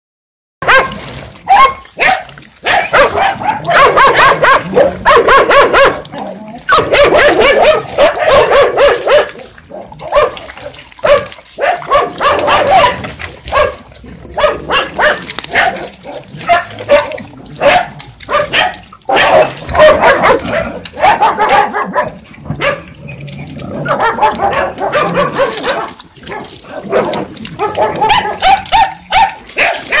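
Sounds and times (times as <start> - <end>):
dogs barking and yelping: 0.6 - 30.0.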